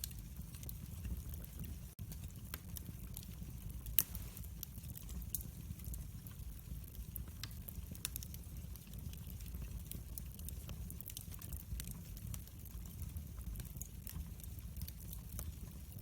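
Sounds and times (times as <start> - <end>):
fire crackles and pops: 0.0 - 16.0
rumble of fire flames: 0.0 - 16.0.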